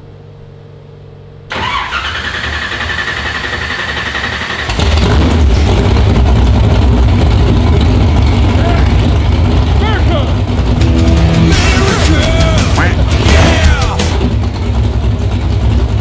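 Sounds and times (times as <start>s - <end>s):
fuel pump hum: 1.5s - 16.0s
unmuffled car engine running: 2.4s - 16.0s.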